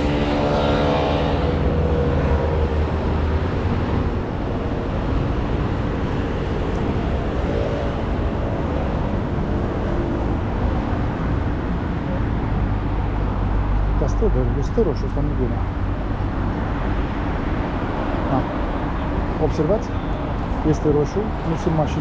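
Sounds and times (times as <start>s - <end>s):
motorbikes passing: 0.0s - 22.0s
road traffic: 0.0s - 22.0s.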